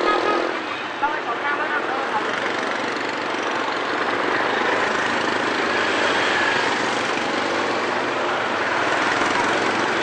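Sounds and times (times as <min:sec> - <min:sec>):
motorbike and car engines: 0:00.0 - 0:10.0.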